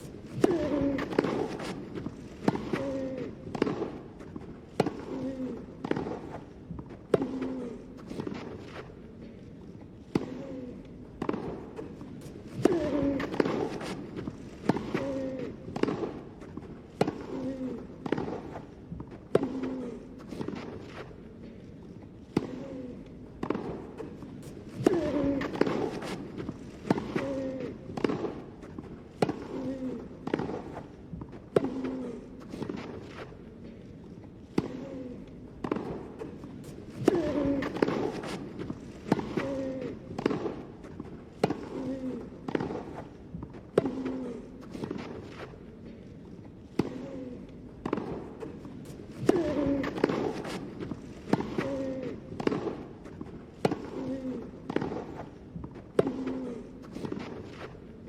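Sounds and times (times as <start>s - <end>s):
racket hitting tennis ball: 0.0s - 8.9s, 11.2s - 21.1s, 23.4s - 33.5s, 35.6s - 45.6s, 47.8s - 57.8s
low background murmur: 0.0s - 58.0s.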